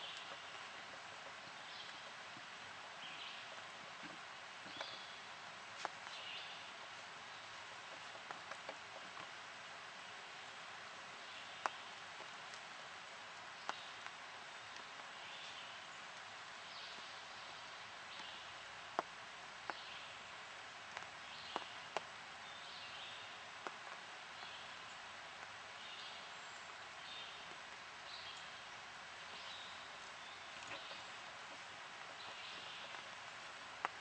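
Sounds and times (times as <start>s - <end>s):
distant songbird: 0.0s - 34.0s
steady hiss: 0.0s - 34.0s.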